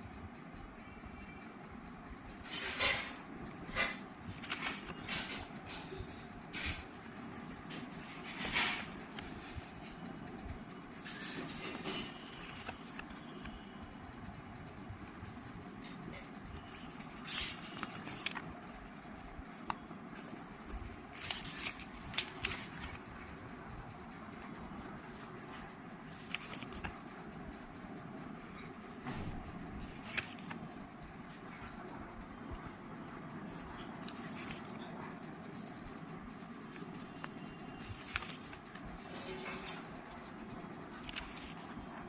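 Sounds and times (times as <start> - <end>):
steady background noise: 0.0 - 42.0.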